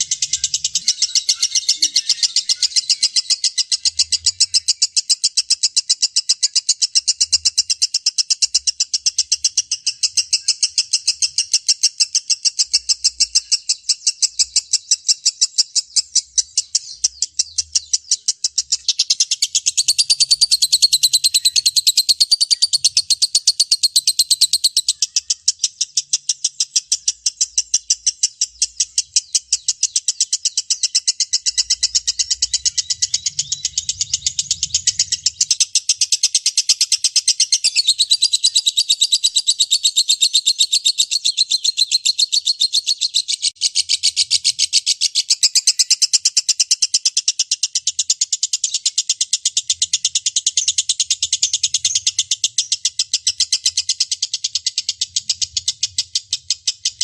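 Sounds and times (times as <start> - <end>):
lovebird chattering trill: 0.0 - 57.0.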